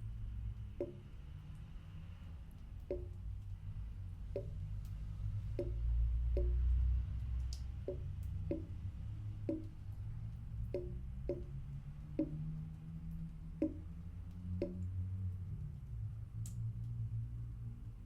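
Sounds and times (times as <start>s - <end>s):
steady low rumble: 0.0s - 18.0s
water dripping into sink: 0.0s - 18.0s.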